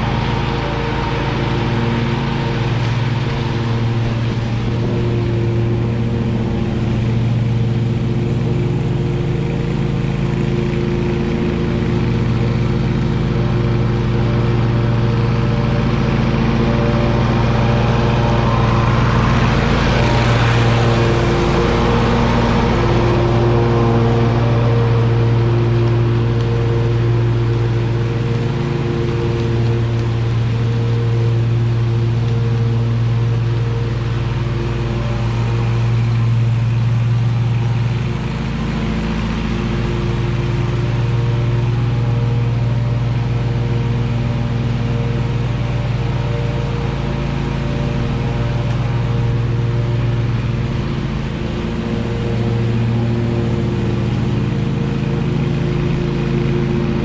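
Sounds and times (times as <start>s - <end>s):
mower engine running: 0.0s - 57.0s
rushing noise of leaves: 0.0s - 57.0s.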